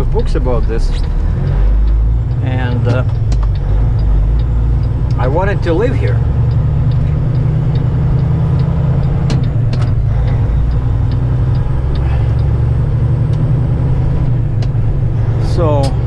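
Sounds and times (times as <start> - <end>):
diesel engine and road noise: 0.0 - 16.0.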